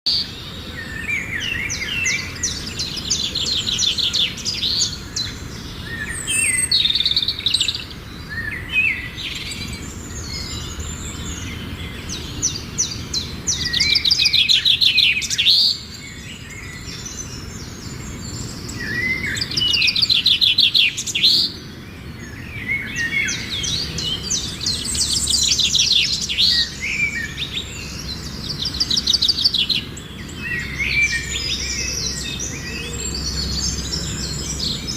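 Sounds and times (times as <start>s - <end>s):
songbirds trilling and chirping: 0.1s - 34.9s.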